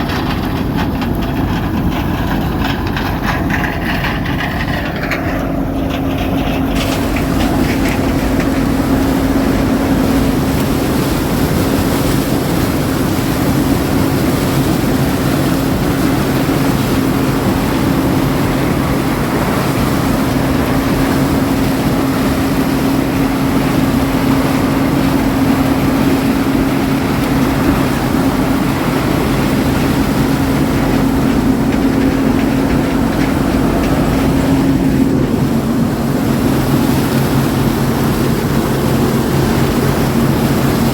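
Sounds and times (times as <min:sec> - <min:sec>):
harvesting machinery engine drone: 0:00.0 - 0:40.9.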